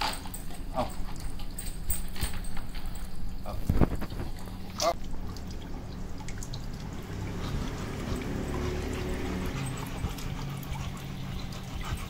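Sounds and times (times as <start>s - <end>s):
low steady hum: 0.0s - 12.0s
small splashes: 0.0s - 12.0s
water trickling and pouring: 0.0s - 12.0s.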